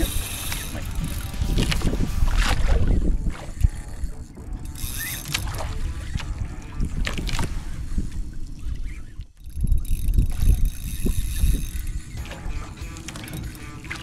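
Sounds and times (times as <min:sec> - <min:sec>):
low rumbling wind: 0:00.0 - 0:12.8
water noise: 0:00.0 - 0:14.0.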